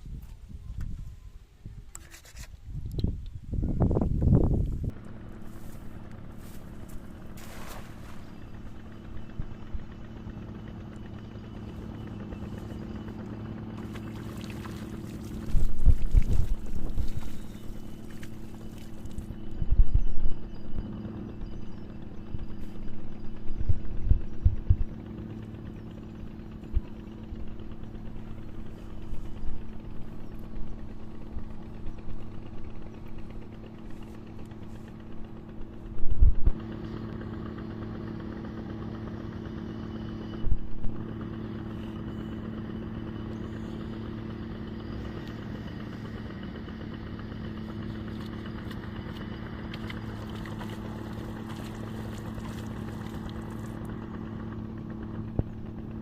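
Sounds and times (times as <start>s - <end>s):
small engine humming: 0.0s - 56.0s.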